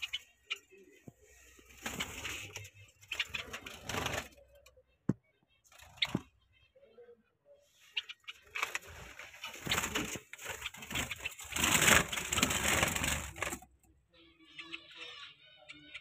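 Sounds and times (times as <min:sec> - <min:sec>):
soft bird calls: 0:00.0 - 0:16.0.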